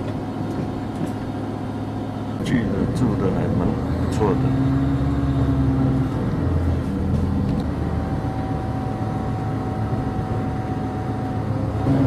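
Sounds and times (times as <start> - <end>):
train engine and rolling hum: 0.0 - 12.0.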